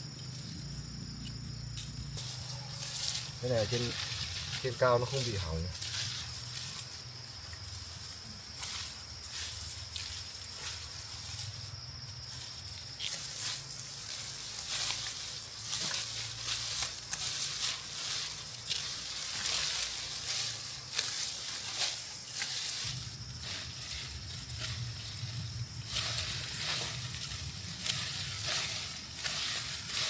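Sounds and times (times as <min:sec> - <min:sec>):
dry rice plants rustling: 0:01.4 - 0:30.0.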